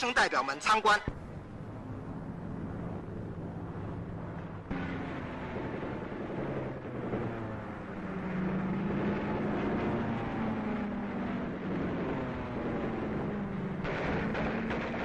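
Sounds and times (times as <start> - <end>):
aircraft engines droning: 0.0 - 15.0.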